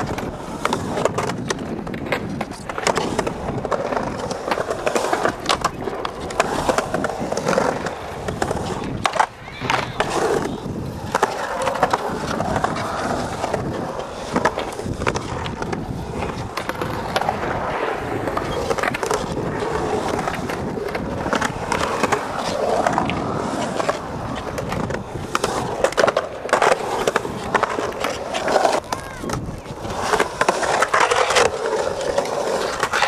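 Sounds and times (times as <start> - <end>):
skateboard clacks: 0.0 - 33.0
skateboard wheels rolling on concrete: 0.0 - 33.0.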